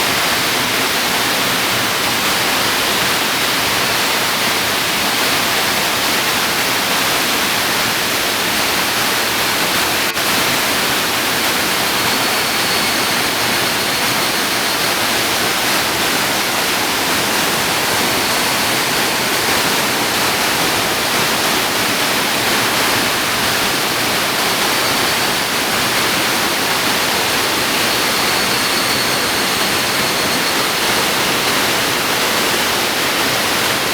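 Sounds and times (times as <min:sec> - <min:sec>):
waterfall rushing water: 0:00.0 - 0:33.9.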